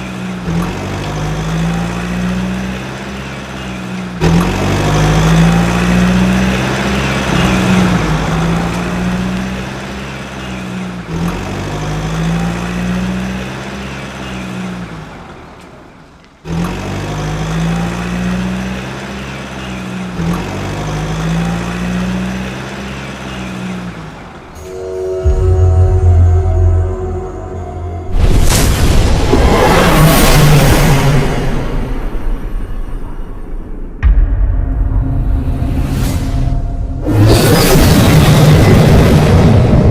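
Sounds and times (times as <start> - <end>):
truck engine revving: 0.0 - 32.8, 37.0 - 39.9.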